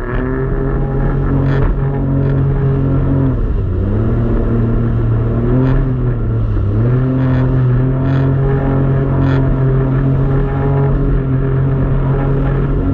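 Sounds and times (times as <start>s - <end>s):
jet ski engine running: 0.0s - 12.9s.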